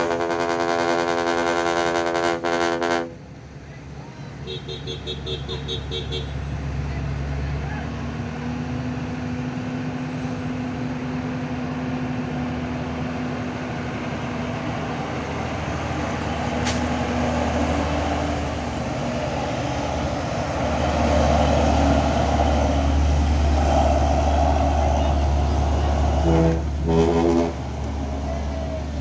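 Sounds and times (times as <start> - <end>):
heavy truck engines labouring: 0.0 - 29.0
rain and road noise: 3.2 - 29.0.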